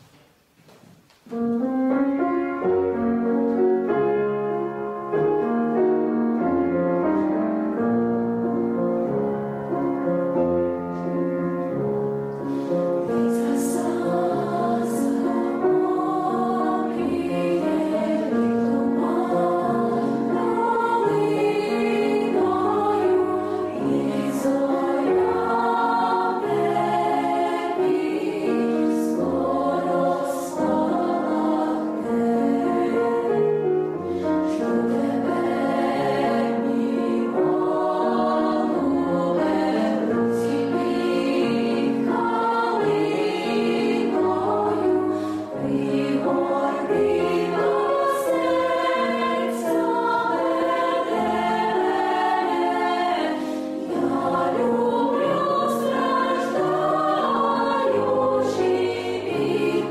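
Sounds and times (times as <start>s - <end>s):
girls' choir singing in harmony: 1.3s - 59.9s.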